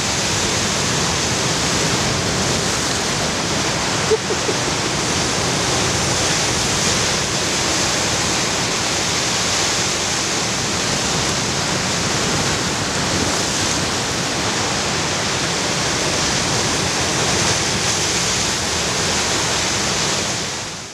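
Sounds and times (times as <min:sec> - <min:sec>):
sea surf on rocky shore: 0:00.0 - 0:20.9.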